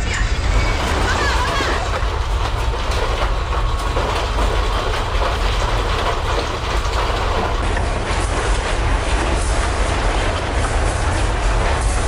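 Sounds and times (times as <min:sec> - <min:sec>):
continuous rattling and clattering: 0:00.0 - 0:12.0.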